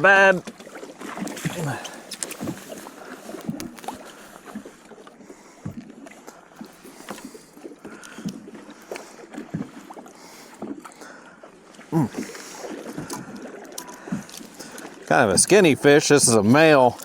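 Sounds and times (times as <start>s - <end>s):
waves slapping boat hull: 0.0s - 17.0s.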